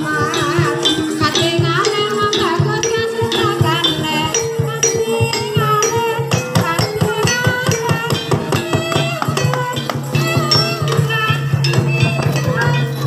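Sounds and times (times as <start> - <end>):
fast drum and percussion: 0.0 - 13.0
metal keys and gongs ringing: 0.0 - 13.0
person singing: 0.0 - 13.0.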